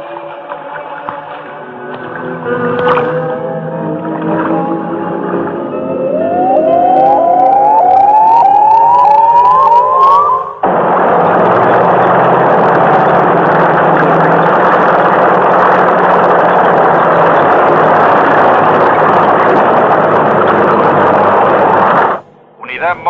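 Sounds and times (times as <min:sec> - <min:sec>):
rushing engine noise: 0:01.5 - 0:23.0.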